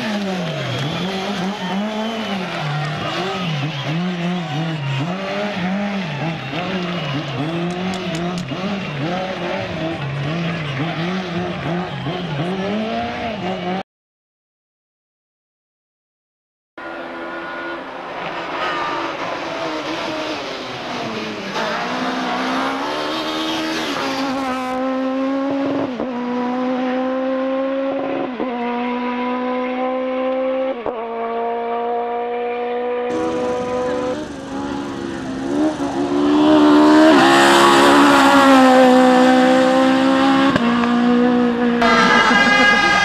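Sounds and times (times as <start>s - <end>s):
race car engine revving: 0.0s - 13.8s, 16.8s - 43.0s.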